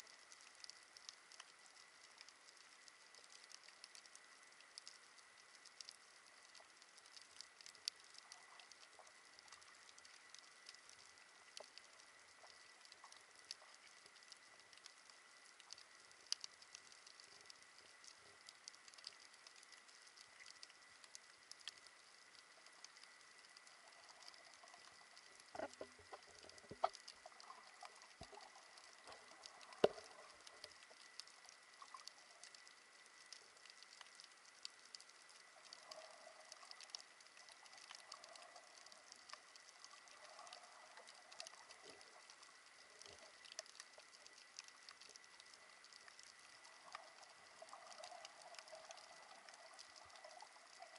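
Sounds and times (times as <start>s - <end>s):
crackle of tiny underwater clicks: 0.0s - 50.9s.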